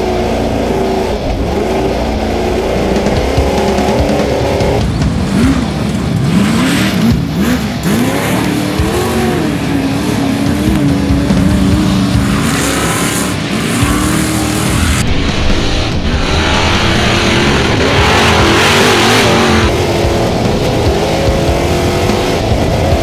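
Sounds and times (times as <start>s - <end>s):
race truck engine revving: 0.0s - 23.0s.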